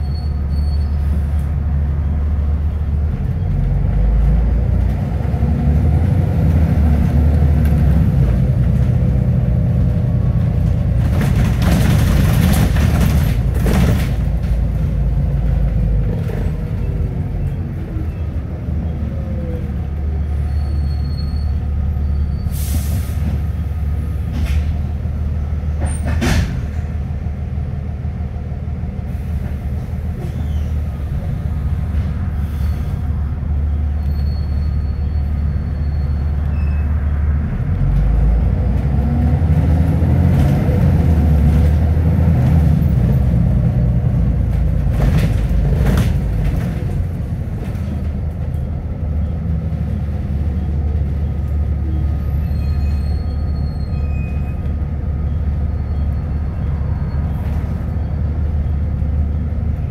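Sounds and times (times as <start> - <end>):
bus engine droning: 0.0 - 59.9
road noise: 0.0 - 59.9
bus body rattling: 2.5 - 19.0, 22.6 - 36.6, 37.9 - 59.9.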